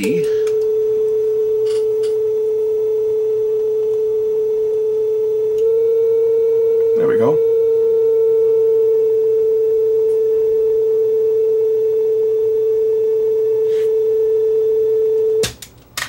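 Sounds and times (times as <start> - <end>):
steady pure test tone: 0.0 - 15.5.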